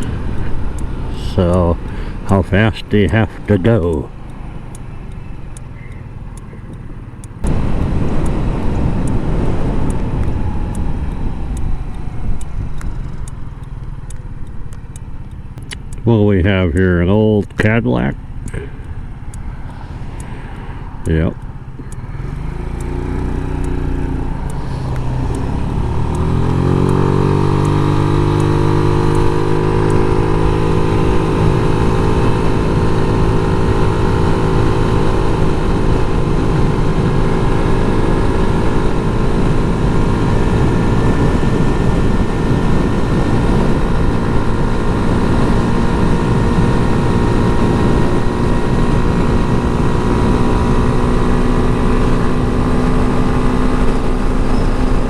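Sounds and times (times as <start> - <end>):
road and wind rumble: 0.0 - 55.0
scooter engine accelerating: 0.0 - 55.0.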